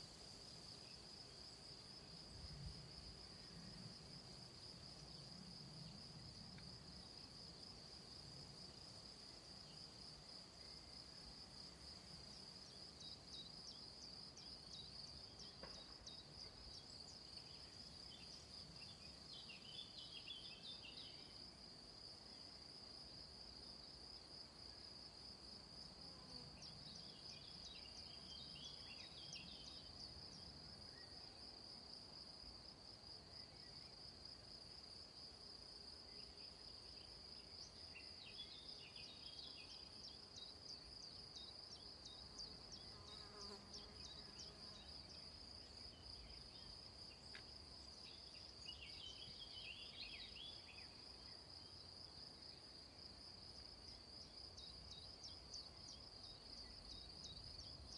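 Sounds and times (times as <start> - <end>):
insect trill: 8.6 - 57.9.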